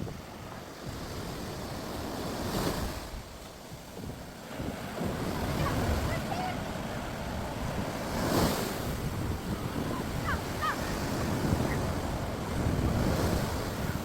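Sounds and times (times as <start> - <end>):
sea waves breaking on beach: 0.0 - 14.0
wind buffeting microphone: 0.0 - 14.0.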